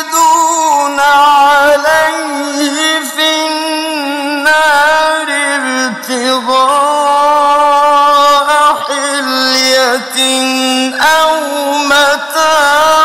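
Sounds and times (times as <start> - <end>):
man chanting melodic recitation: 0.0 - 13.0.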